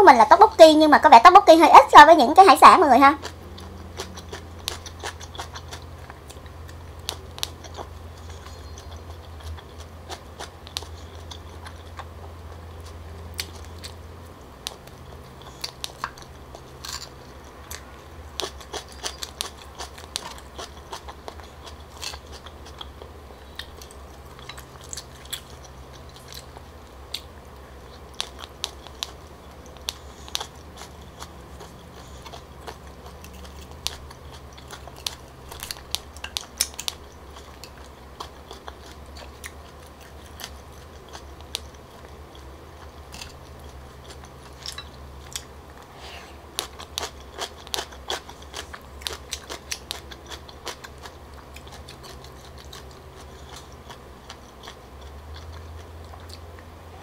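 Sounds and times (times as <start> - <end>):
steady low hum: 0.0 - 57.0
chewing and biting: 3.2 - 45.6, 46.5 - 56.7.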